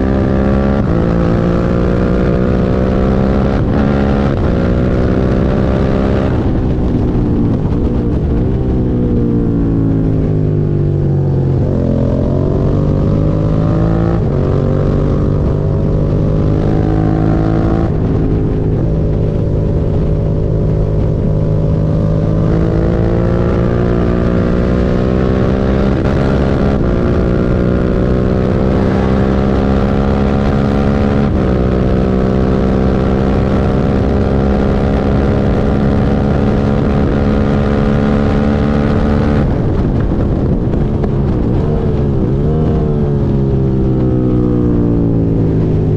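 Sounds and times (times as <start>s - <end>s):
motorcycle engine shifting gears: 0.0s - 45.9s.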